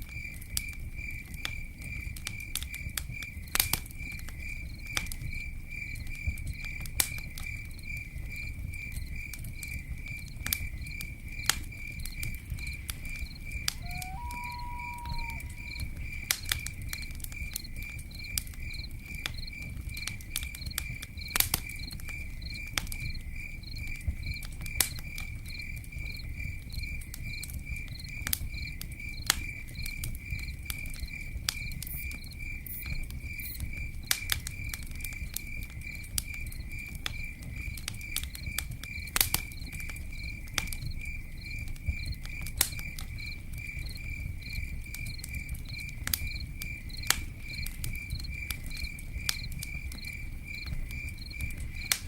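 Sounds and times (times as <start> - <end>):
campfire crackling and popping: 0.0 - 52.0
cricket chirping: 0.0 - 52.0.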